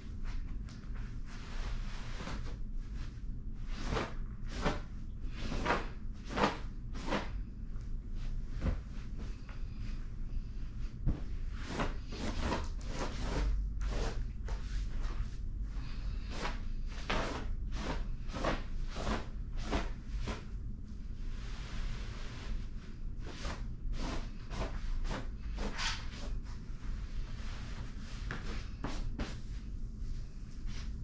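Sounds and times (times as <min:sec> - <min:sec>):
bed sheets rustling: 0:00.0 - 0:31.0.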